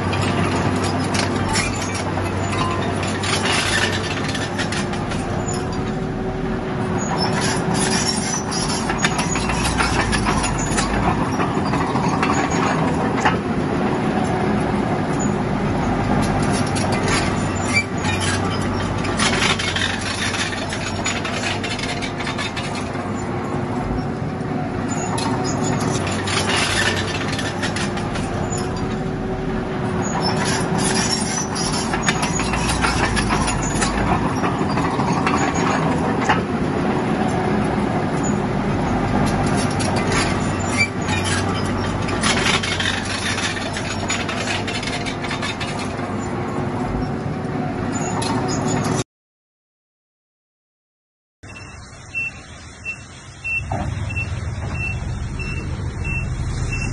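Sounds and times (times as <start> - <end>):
crawler tracks clanking over stone: 0.0 - 6.2, 6.8 - 24.2, 24.8 - 47.1
bulldozer diesel engine running: 0.0 - 49.0, 51.4 - 56.9.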